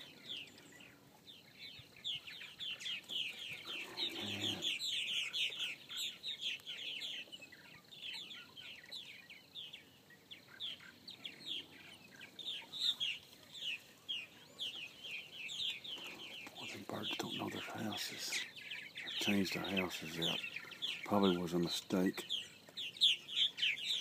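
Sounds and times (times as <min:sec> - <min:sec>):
flock of birds chirping: 0:00.0 - 0:24.0.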